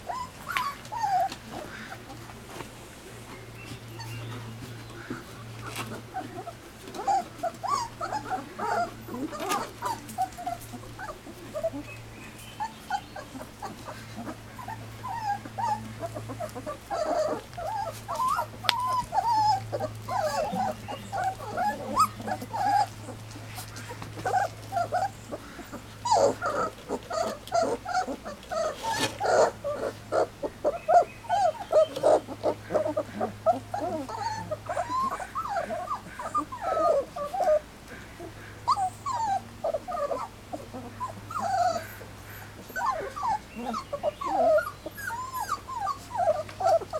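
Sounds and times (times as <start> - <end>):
puppies whimpering: 0.0 - 46.9.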